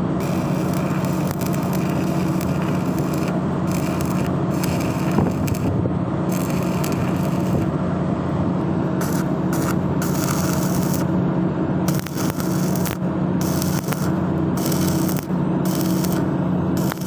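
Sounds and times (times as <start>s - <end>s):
low even hum: 0.0s - 17.0s
arc welding crackling hiss: 0.2s - 5.7s, 6.3s - 7.7s, 9.0s - 11.2s, 11.9s - 17.0s.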